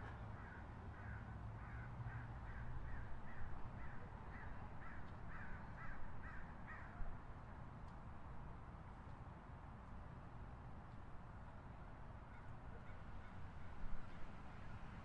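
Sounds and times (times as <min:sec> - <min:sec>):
hum of city traffic: 0:00.0 - 0:15.0.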